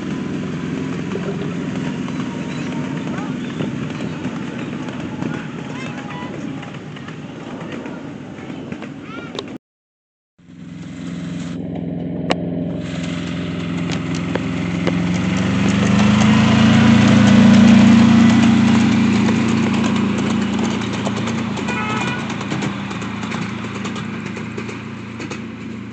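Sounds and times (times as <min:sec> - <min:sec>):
miniature locomotive engine running: 0:00.0 - 0:09.4, 0:12.8 - 0:25.9
wheels clicking on track: 0:00.0 - 0:09.6, 0:10.5 - 0:25.9.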